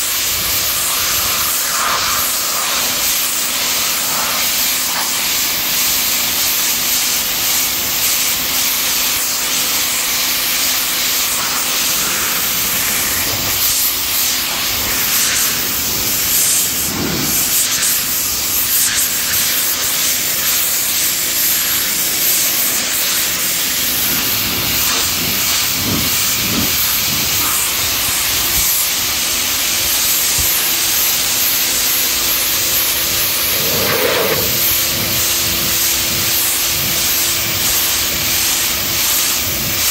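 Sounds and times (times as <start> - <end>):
pressure washer water jet hiss: 0.0 - 39.9.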